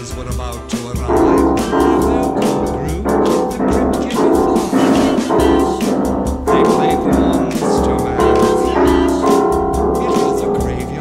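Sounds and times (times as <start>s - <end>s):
upright piano chords: 1.1s - 11.0s.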